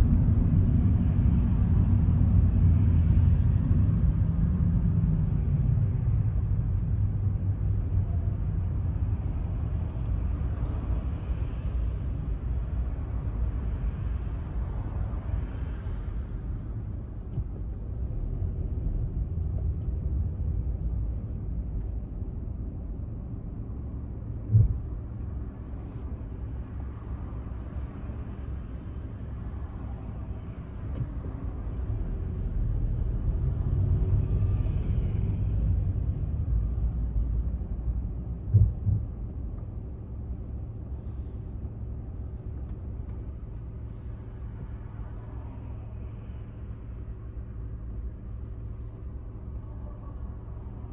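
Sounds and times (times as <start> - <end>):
car driving in traffic: 0.0 - 50.9.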